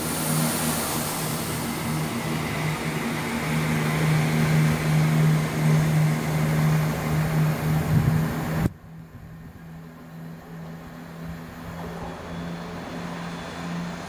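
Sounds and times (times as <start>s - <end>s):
train wheels on track: 0.0s - 8.7s, 9.3s - 14.0s
diesel train engine hum: 0.0s - 14.0s.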